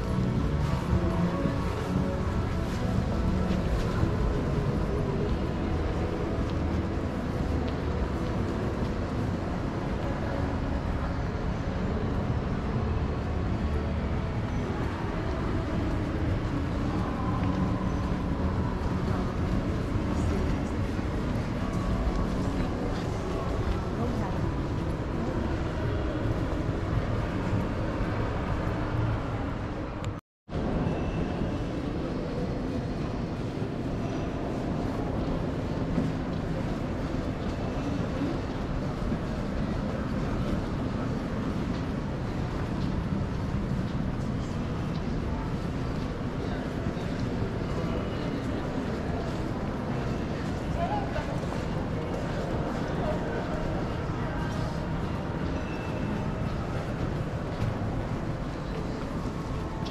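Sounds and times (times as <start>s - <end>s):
low rumble of urban ambience: 0.0s - 59.9s.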